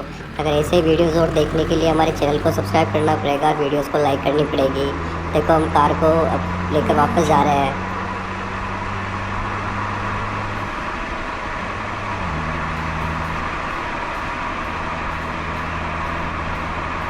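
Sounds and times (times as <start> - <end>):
toy car engine hum: 0.0 - 17.0.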